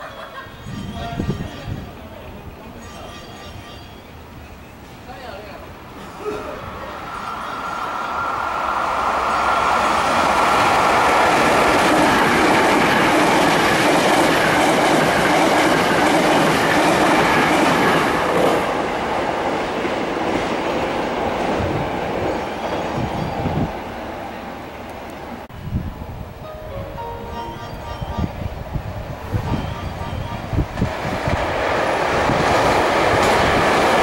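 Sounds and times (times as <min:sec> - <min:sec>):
electric train passing: 0:00.0 - 0:34.0.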